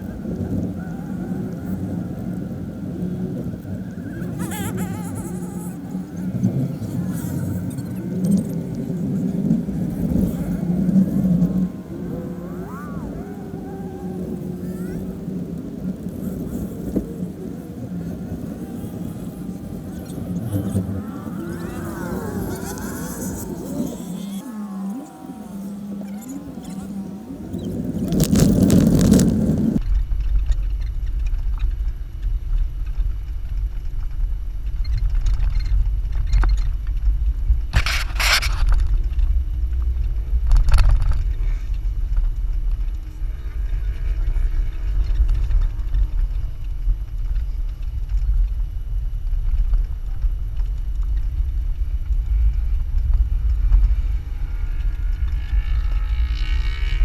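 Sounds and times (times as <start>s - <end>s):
vehicle rumble driving on sand: 0.0s - 57.0s.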